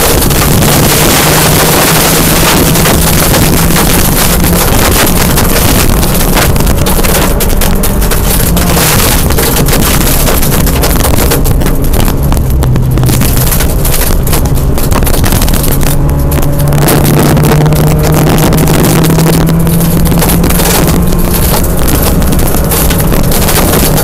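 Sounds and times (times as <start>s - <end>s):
gravel and tyre noise: 0.0s - 24.0s
rally car engine accelerating: 0.0s - 24.0s
stones clicking against car: 0.0s - 24.0s.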